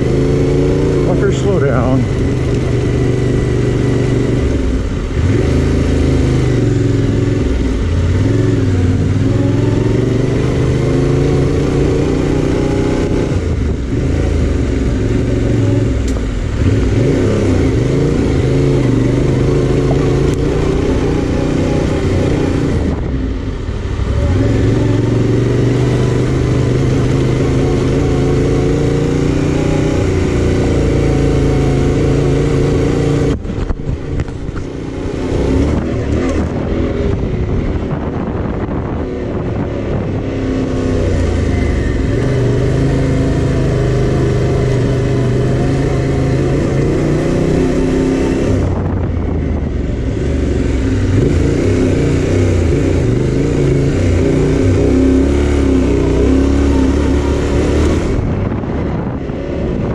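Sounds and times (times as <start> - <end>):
motorcycle engine under load: 0.0 - 59.9.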